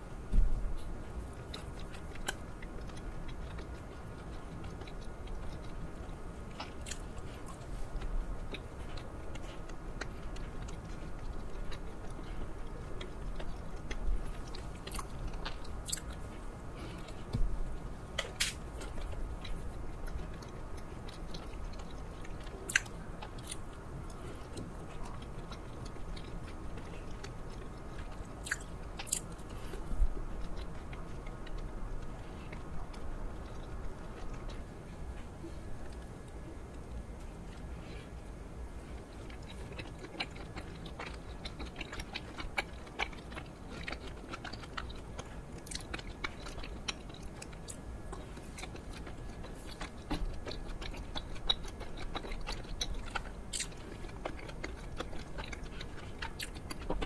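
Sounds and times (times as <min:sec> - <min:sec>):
chewing soft bun: 0:00.0 - 0:57.0.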